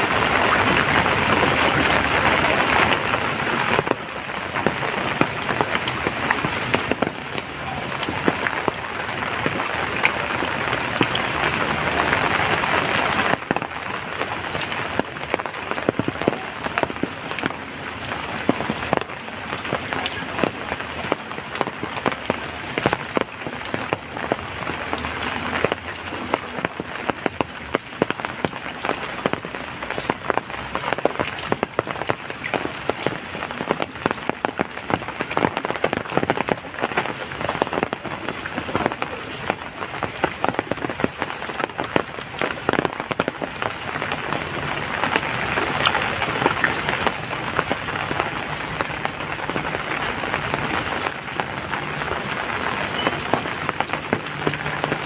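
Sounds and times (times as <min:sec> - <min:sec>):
raindrops tapping on surface: 0:00.0 - 0:55.0
steady rain falling: 0:00.0 - 0:55.0.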